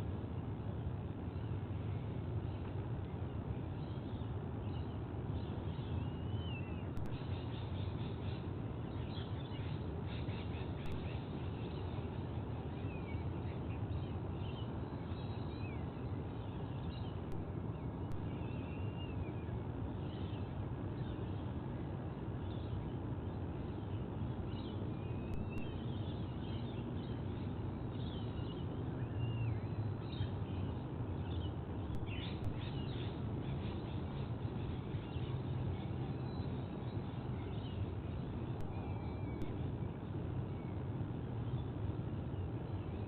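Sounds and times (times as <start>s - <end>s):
low background rumble: 0.0s - 43.0s.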